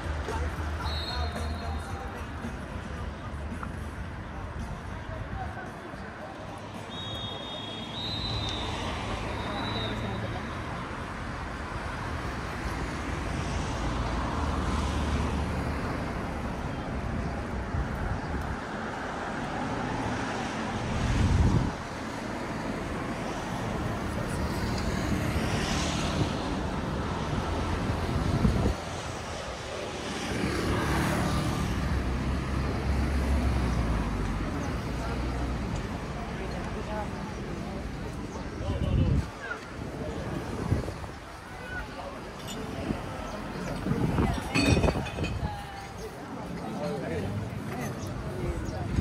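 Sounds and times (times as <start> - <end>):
cars passing: 0.0 - 49.0
steady traffic hum: 0.0 - 49.0.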